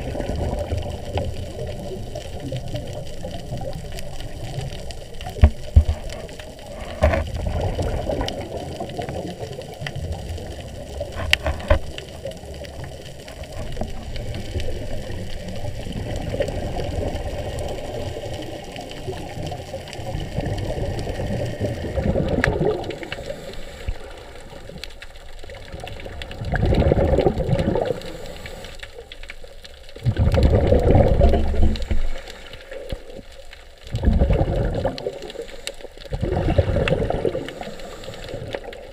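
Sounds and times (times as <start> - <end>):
diver's exhaled bubbles bursting: 0.0 - 4.7, 5.3 - 24.8, 25.4 - 28.5, 30.0 - 38.9
underwater rush of water: 0.0 - 38.9.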